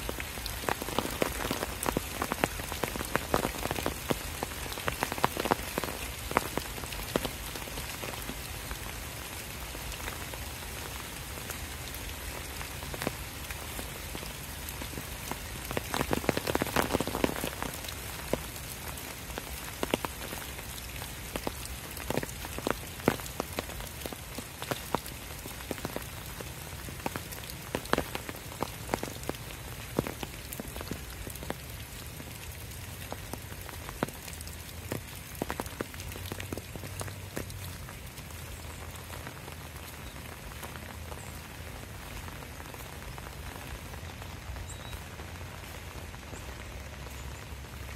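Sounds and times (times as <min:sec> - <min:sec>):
rain on leaves: 0:00.0 - 0:47.9.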